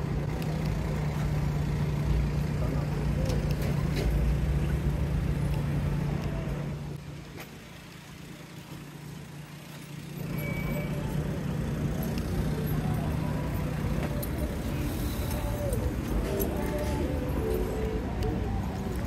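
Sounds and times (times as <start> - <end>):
street traffic passing: 0.0 - 19.0.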